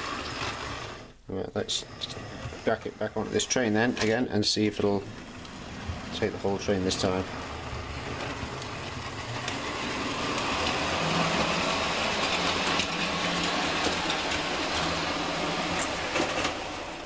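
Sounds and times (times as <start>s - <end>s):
model train motor whir: 0.0s - 17.0s
wheels clicking on rails: 3.2s - 17.0s.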